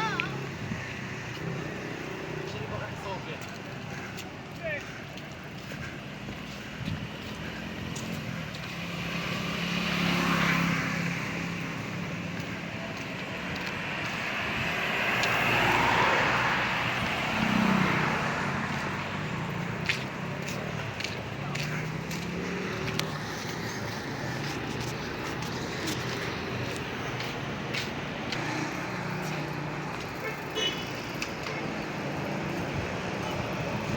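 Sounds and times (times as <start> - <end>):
motor vehicles passing: 0.0 - 33.9.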